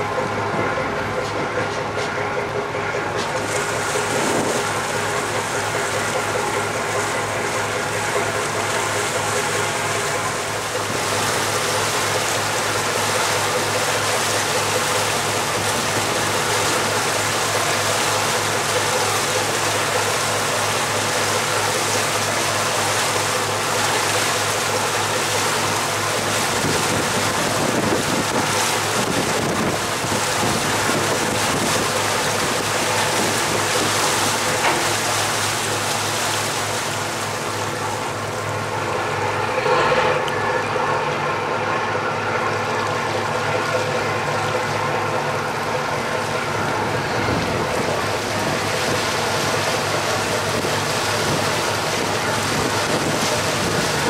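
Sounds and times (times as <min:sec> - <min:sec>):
diesel engines running: 0:00.0 - 0:54.0
propeller wash churning water: 0:00.0 - 0:54.0.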